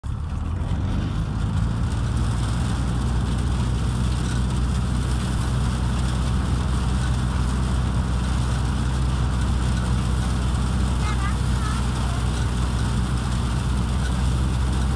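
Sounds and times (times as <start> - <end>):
threshing machine running: 0.0 - 14.9.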